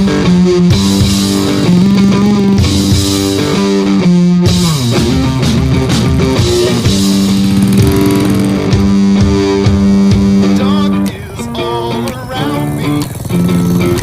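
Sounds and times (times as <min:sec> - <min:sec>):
drum kit: 0:00.0 - 0:12.1
electric guitar: 0:00.0 - 0:14.0.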